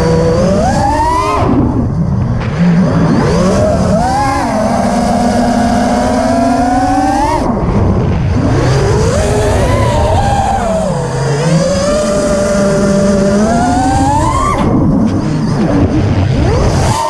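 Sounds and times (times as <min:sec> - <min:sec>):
drone motors whining: 0:00.0 - 0:17.0
wind rushing over microphone: 0:00.0 - 0:17.0.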